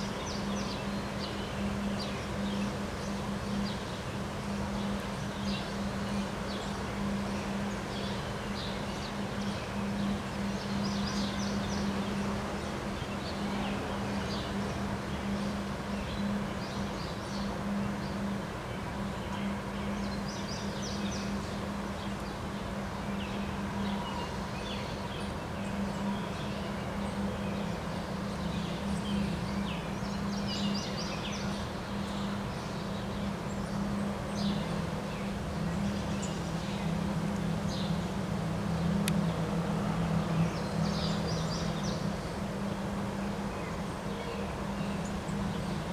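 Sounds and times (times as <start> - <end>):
constant low hum: 0.0 - 45.9
rush of outdoor noise: 0.0 - 45.9.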